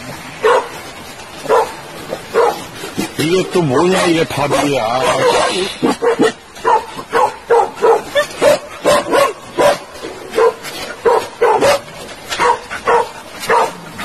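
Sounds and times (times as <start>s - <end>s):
dog barking: 0.4s - 0.8s, 1.4s - 2.7s, 3.9s - 13.8s.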